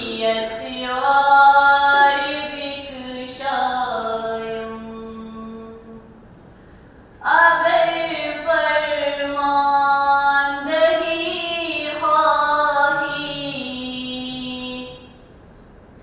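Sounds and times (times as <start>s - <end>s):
person singing unaccompanied: 0.0s - 6.1s, 7.2s - 15.1s.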